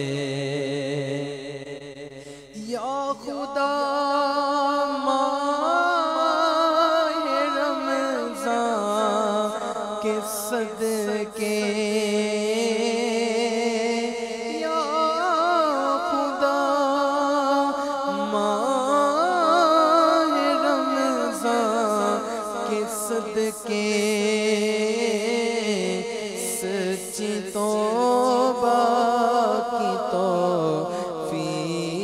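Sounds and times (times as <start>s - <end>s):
man singing unaccompanied: 0.0s - 32.0s.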